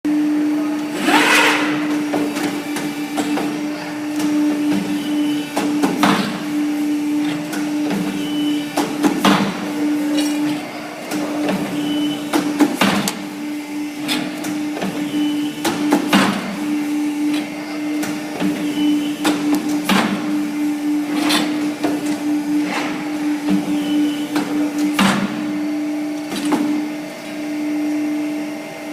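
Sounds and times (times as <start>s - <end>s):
motor hum: 0.5s - 28.9s.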